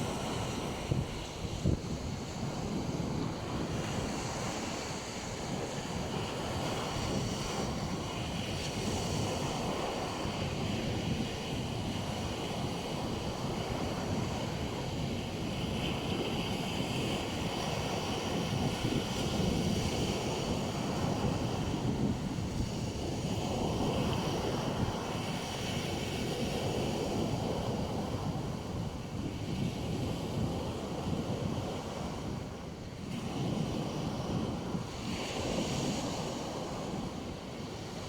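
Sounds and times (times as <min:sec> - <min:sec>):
waves washing onto beach: 0:00.0 - 0:38.0
wind rumbling on microphone: 0:00.0 - 0:38.0.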